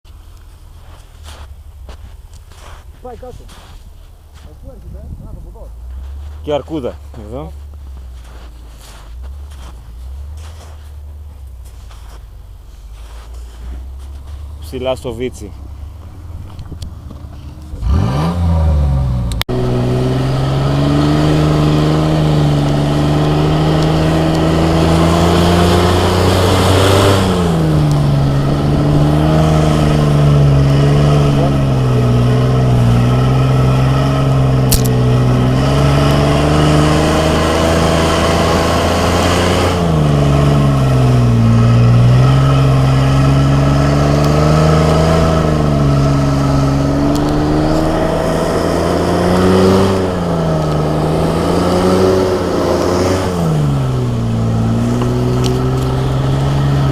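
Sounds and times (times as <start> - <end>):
car engine pulling under load: 5.7 - 56.9.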